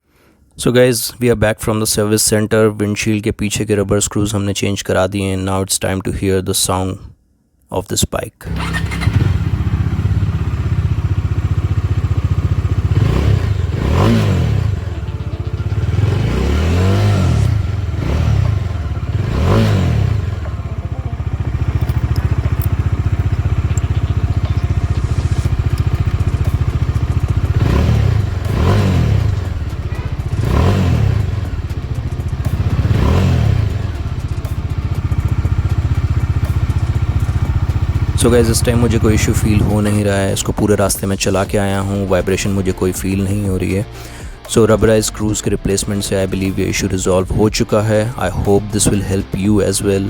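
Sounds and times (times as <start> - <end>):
engine throttle blips: 8.4 - 50.0
motorcycle engine idling: 8.5 - 50.0.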